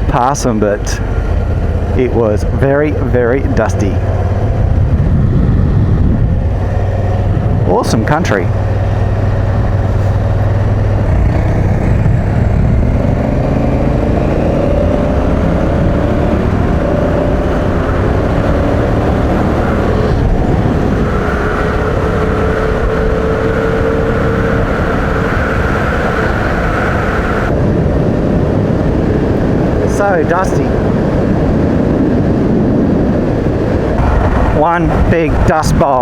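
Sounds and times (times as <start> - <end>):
motorcycle engine running: 0.0 - 30.0
low rumble of wind: 0.0 - 36.0.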